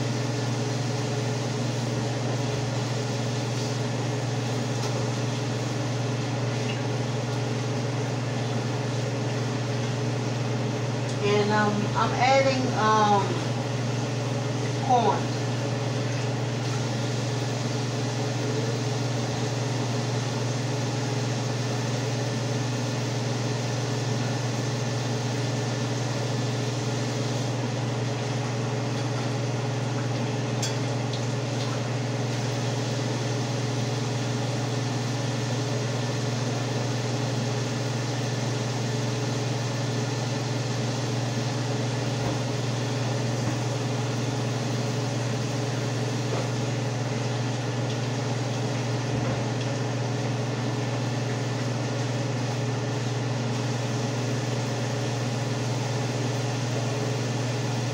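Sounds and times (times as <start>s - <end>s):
exhaust fan humming: 0.0s - 57.9s.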